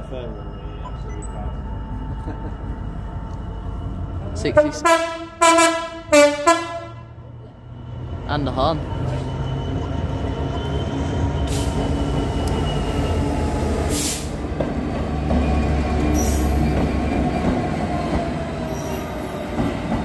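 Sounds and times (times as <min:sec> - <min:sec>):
train wheels squealing on rails: 0:00.0 - 0:04.6, 0:07.9 - 0:20.0.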